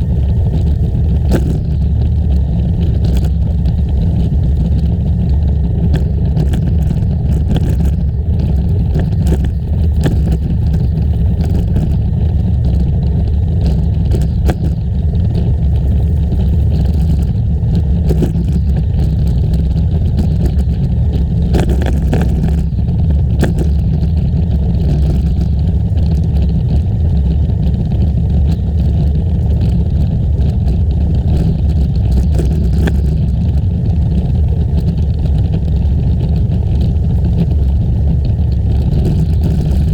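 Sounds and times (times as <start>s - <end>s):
bicycle clicks and rattles: 0.0s - 39.9s
wind rumbling on microphone: 0.0s - 39.9s.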